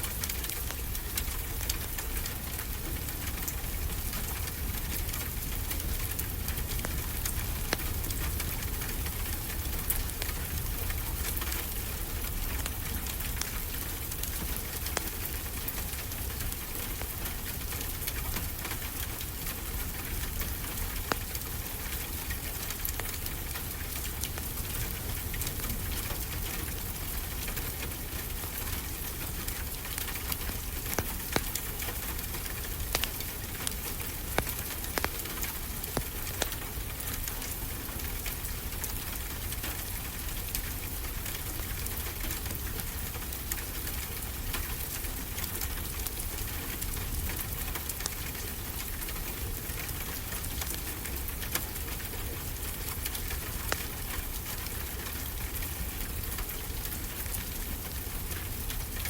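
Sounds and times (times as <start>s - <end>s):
rain hissing: 0.0s - 59.0s
wood fire crackling: 0.0s - 59.0s.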